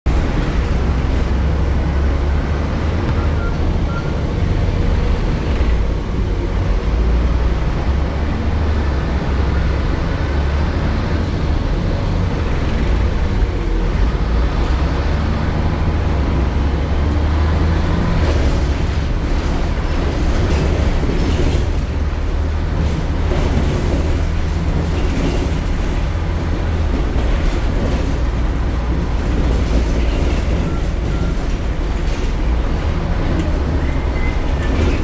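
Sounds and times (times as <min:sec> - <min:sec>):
bus diesel engine droning: 0:00.0 - 0:35.0.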